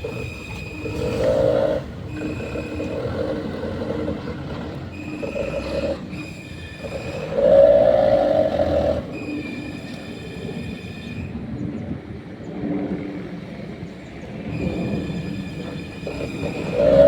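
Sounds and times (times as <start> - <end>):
hydraulic hoist whine: 0.0 - 11.8, 12.9 - 17.0.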